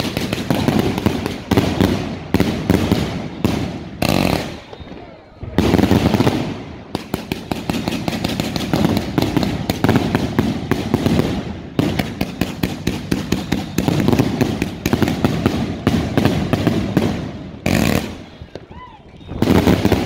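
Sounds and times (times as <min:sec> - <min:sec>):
firework cake launch shots: 0:00.0 - 0:20.0.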